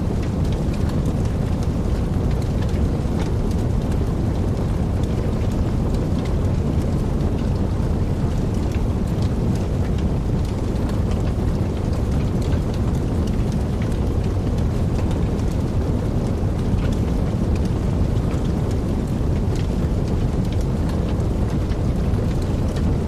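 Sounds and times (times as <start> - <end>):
low roar of flames: 0.0 - 23.0
wood fire crackling and popping: 0.0 - 23.0.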